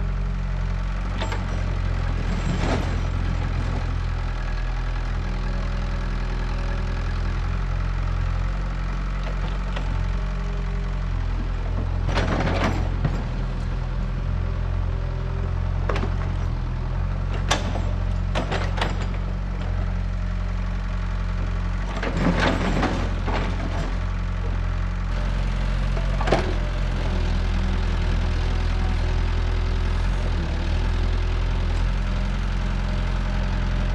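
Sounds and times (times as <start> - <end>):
excavator diesel engine humming: 0.0 - 33.9.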